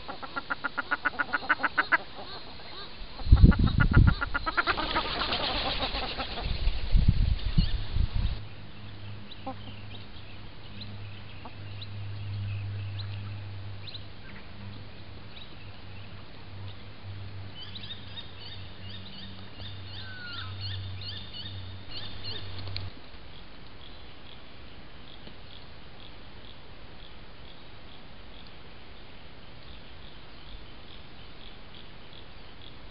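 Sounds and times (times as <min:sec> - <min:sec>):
birds chirping: 0:00.0 - 0:06.7, 0:07.3 - 0:32.9.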